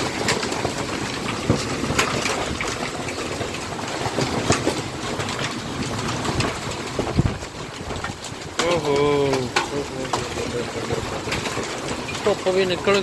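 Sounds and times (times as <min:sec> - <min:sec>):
hailstones clattering: 0:00.0 - 0:13.0.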